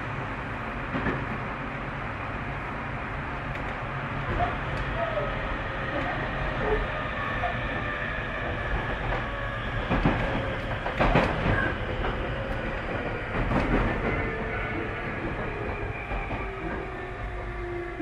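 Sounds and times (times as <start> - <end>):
train wheels and motors rumbling: 0.0 - 18.0.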